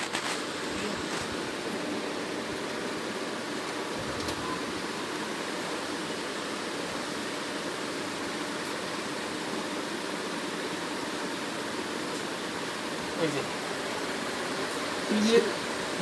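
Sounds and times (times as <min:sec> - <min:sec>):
workshop background hiss: 0:00.0 - 0:16.0.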